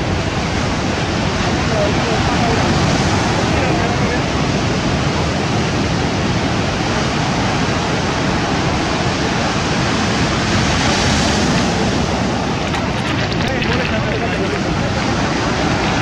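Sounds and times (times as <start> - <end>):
waves washing over pebbles: 0.0 - 16.0.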